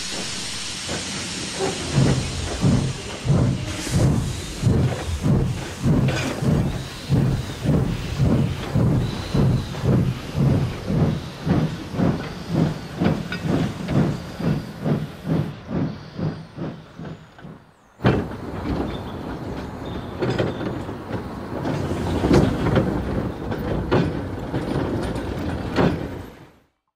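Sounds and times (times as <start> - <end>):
steam locomotive chuffing: 0.0 - 26.6
train rolling on track: 0.0 - 26.8.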